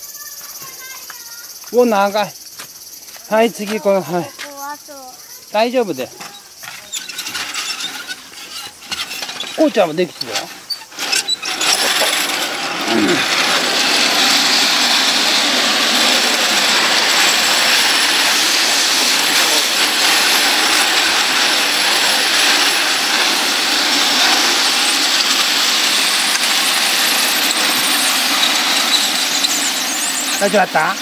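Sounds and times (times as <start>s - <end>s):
metal rollers rattling and whirring: 5.5s - 31.0s.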